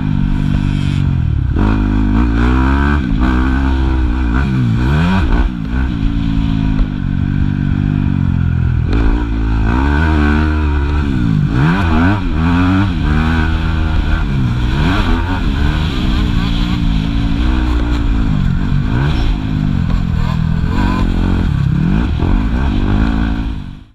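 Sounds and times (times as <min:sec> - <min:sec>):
motorbike engine revving: 0:00.0 - 0:23.9.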